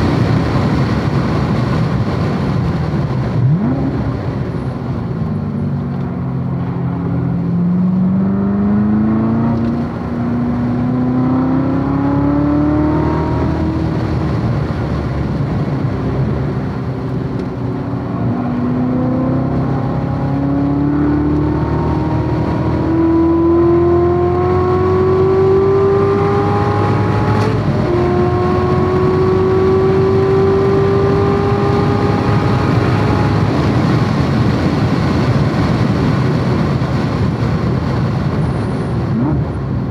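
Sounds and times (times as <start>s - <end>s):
sports car engine accelerating: 0.0s - 39.9s
wind and tyre noise: 0.0s - 39.9s.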